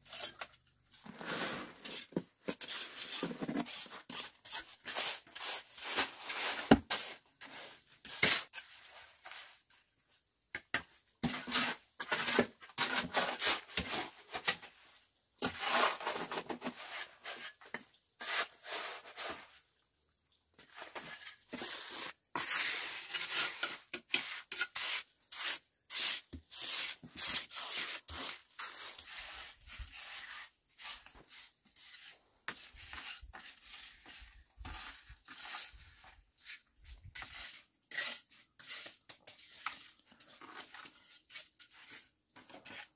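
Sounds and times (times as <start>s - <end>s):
trowels scraping wet mortar: 0.0s - 9.5s, 11.2s - 14.8s, 15.4s - 19.5s, 20.6s - 42.9s.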